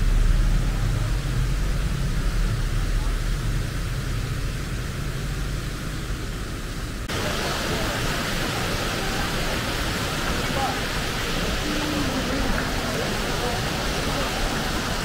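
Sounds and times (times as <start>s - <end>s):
even hiss: 0.0s - 15.0s
rushing noise with low rumble: 0.0s - 15.0s.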